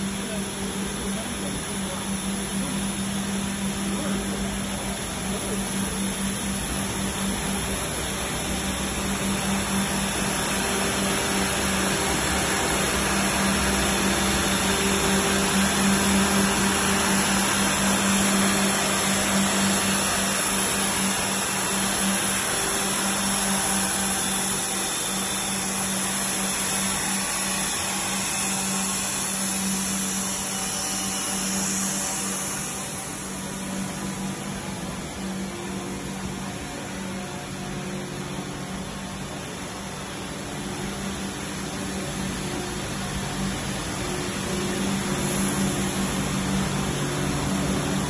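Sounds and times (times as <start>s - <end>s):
motor hum: 0.0s - 48.0s.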